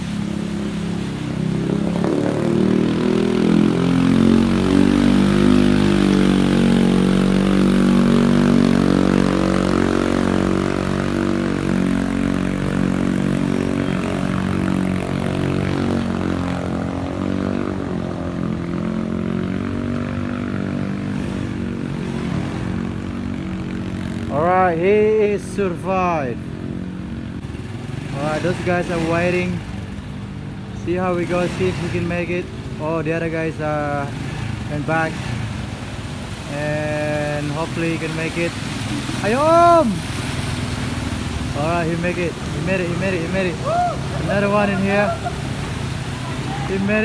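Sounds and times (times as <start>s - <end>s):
motorbike and car engines revving: 0.0s - 47.0s.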